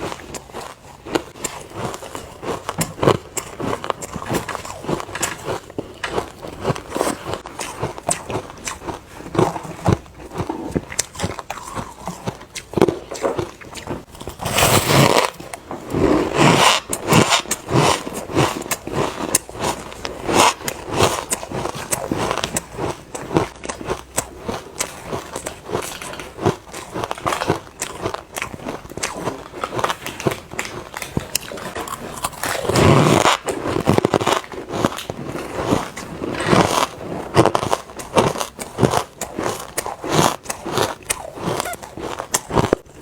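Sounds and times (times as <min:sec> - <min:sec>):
chewing ice crunches: 0:00.0 - 0:43.0.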